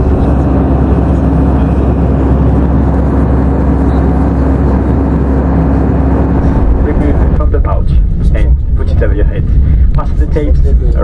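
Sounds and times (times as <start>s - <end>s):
constant hum: 0.0s - 11.0s
jet engine drone in cabin: 0.0s - 11.0s.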